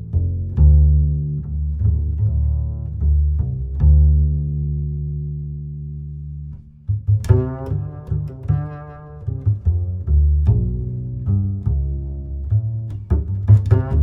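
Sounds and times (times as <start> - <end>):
low bowed strings: 0.0 - 14.0
plucked bass and strings: 0.0 - 14.0.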